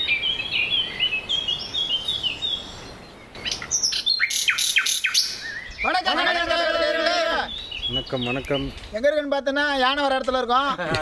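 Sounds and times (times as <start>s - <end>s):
sharp falling bird calls: 0.0s - 9.0s
birds chirping: 0.0s - 11.0s.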